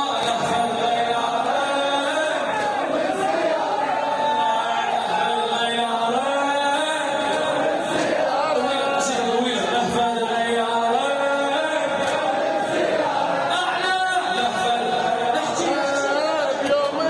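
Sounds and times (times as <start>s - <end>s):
man chanting: 0.0s - 2.5s, 4.4s - 12.1s, 13.5s - 17.0s.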